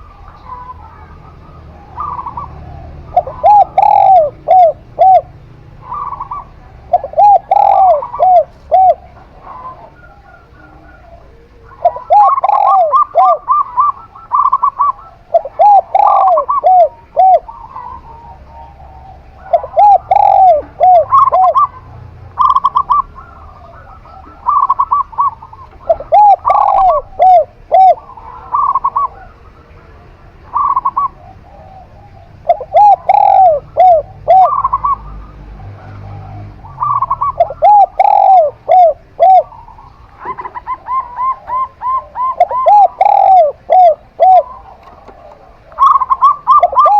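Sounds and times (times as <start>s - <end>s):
dove cooing high quick notes: 0.0s - 29.6s, 30.4s - 46.9s
dove cooing low rounded coos: 0.0s - 46.9s.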